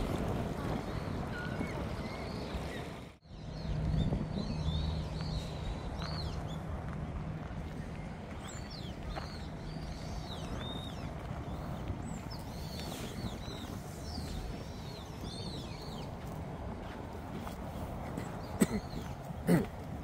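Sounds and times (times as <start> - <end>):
small birds chirping: 0.8 - 6.7, 7.6 - 19.7.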